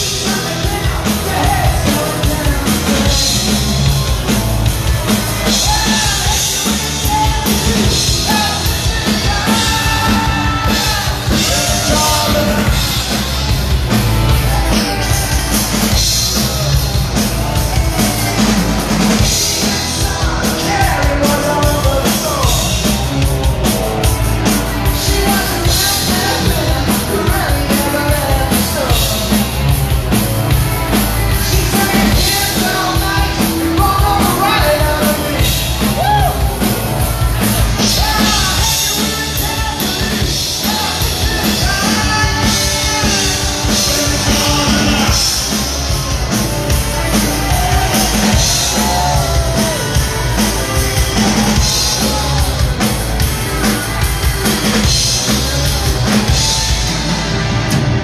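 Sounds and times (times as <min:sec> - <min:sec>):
man singing: 0:00.0 - 0:13.4, 0:14.2 - 0:16.8, 0:18.0 - 0:29.9, 0:30.5 - 0:36.7, 0:37.4 - 0:52.9
drum kit beat: 0:00.0 - 0:58.0
electric guitars: 0:00.0 - 0:58.0.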